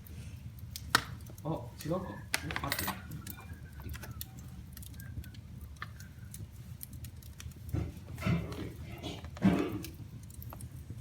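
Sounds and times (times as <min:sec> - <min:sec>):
low fire rumble: 0:00.0 - 0:11.0
wood fire crackling and popping: 0:00.0 - 0:11.0.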